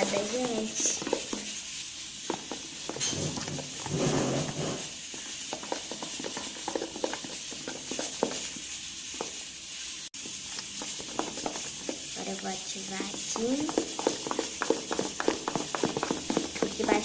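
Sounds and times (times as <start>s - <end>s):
spoon scraping a bowl: 0.0s - 9.4s, 10.3s - 12.2s, 13.1s - 17.0s.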